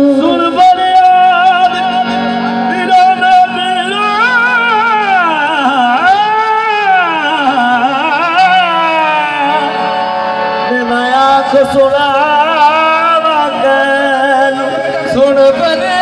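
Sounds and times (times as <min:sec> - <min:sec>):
harmonium held notes: 0:00.0 - 0:16.0
man singing devotional song: 0:00.0 - 0:16.0.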